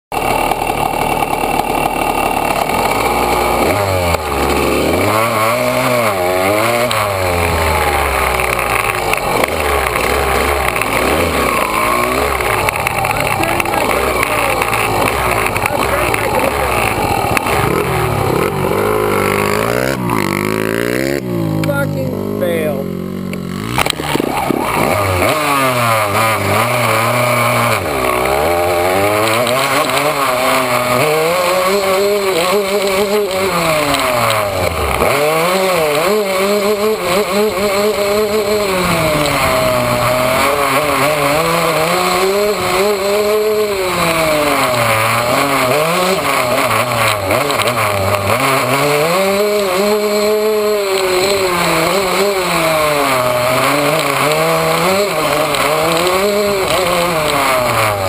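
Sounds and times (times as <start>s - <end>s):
two-stroke dirt bike engine revving: 0.1s - 58.0s.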